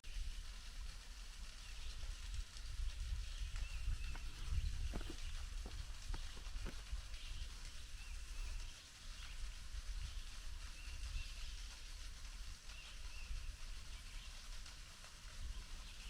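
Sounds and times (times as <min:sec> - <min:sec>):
low rumble on microphone: 0:00.0 - 0:16.0.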